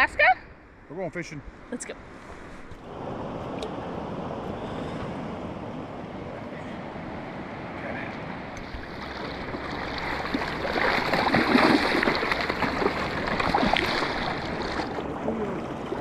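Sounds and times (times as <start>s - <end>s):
river water rushing: 2.8s - 16.0s.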